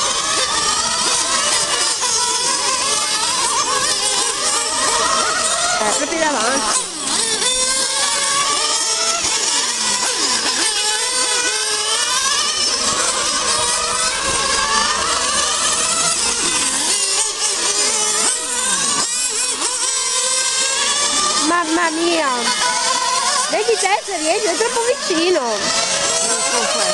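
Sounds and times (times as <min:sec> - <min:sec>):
model car engines whining: 0:00.0 - 0:26.9.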